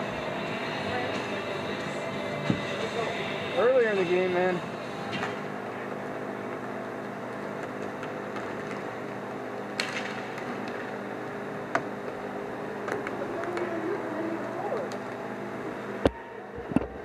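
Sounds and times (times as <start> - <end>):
steady tonal hum: 0.0 - 17.0.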